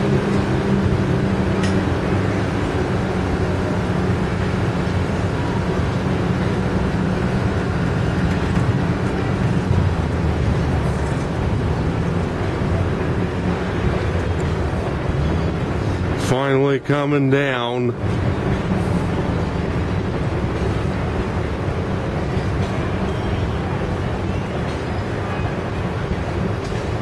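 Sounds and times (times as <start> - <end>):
mechanical hum and rumble: 0.0 - 27.0.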